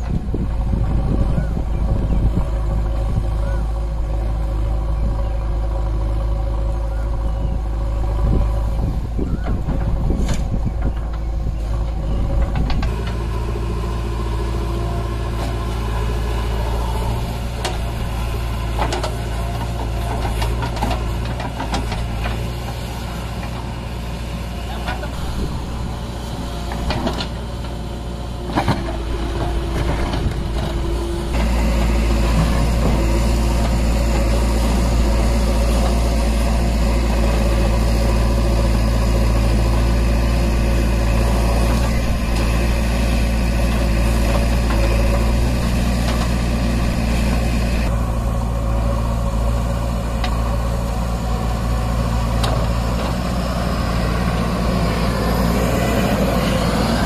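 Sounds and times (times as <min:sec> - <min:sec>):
diesel engines running: 0:00.0 - 0:57.0
loader digging soil: 0:00.0 - 0:57.0.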